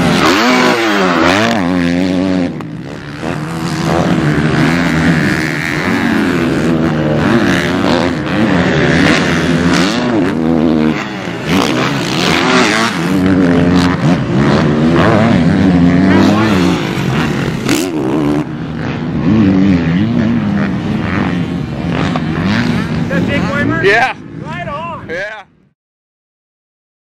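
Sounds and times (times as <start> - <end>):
motocross bike engine revving: 0.0 - 25.4.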